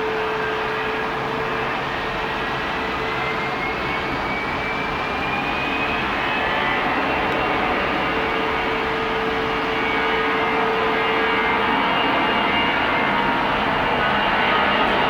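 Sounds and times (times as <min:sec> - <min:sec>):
high engine whine: 0:00.0 - 0:15.0.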